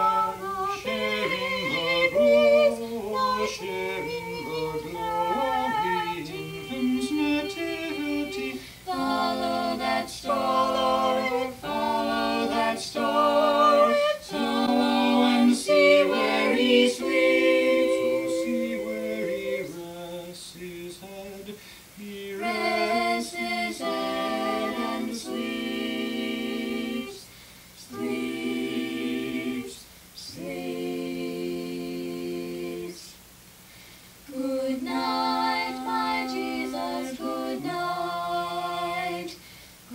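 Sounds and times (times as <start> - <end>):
a cappella quartet singing: 0.0 - 33.3, 34.2 - 39.9.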